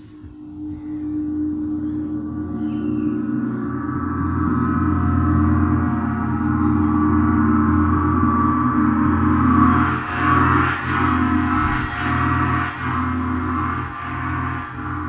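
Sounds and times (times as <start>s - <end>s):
deep drone: 0.0s - 15.0s
large gongs ringing: 0.0s - 15.0s.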